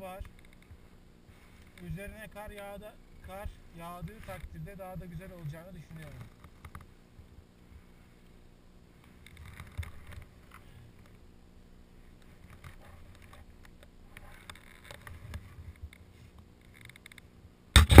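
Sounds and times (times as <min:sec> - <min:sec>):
faint low rumble: 0:00.0 - 0:18.0.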